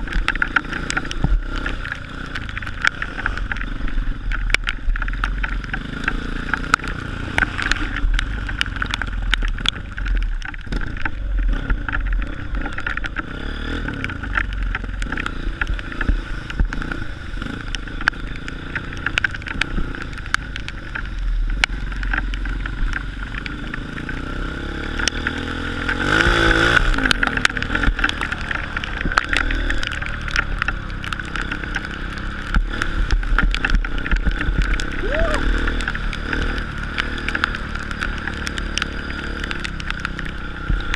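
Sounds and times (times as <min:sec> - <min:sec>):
sharp clicks and knocks: 0:00.0 - 0:17.0, 0:17.6 - 0:40.9
motorbike engine running: 0:00.0 - 0:40.9.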